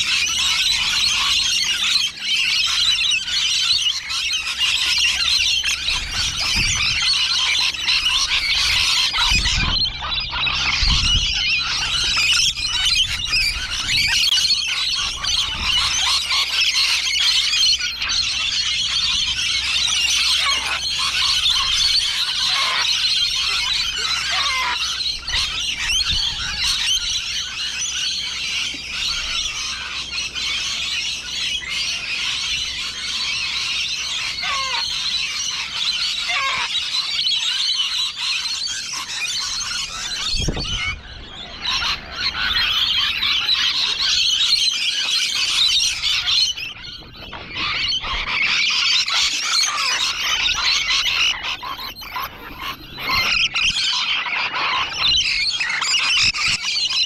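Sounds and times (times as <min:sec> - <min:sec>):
parrots screeching and chattering: 0:00.0 - 0:57.0.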